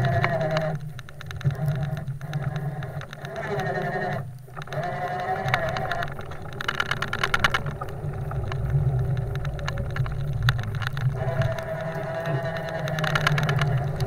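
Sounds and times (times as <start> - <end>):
steady whine: 0.0 - 14.0.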